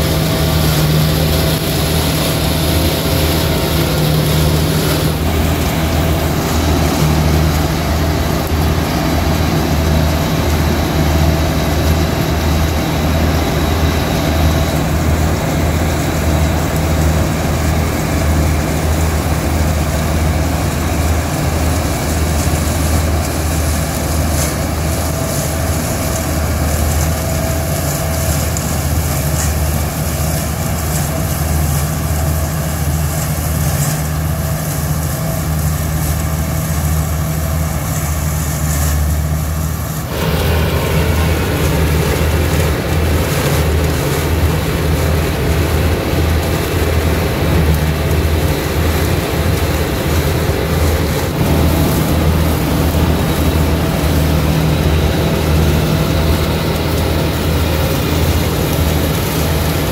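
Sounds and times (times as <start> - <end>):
combine harvester engine hum: 0.0 - 59.9
threshing machinery noise: 0.0 - 59.9.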